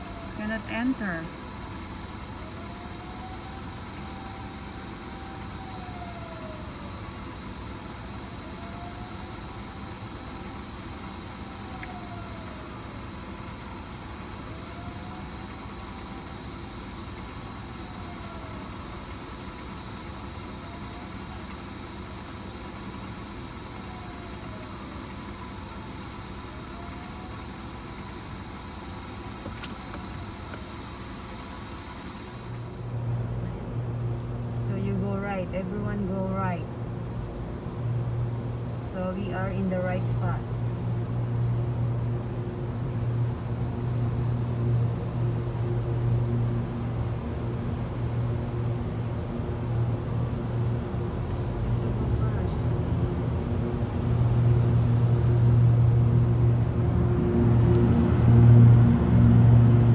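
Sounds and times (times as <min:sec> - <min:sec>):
engines idling: 0:00.0 - 0:59.9
fire engine siren wailing: 0:00.0 - 0:59.9.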